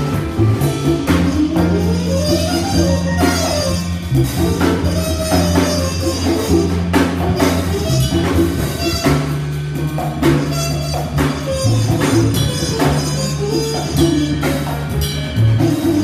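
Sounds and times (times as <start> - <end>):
drum kit beat with cymbals: 0.0 - 16.0
grand piano: 0.0 - 16.0
upright bass walking: 0.0 - 16.0.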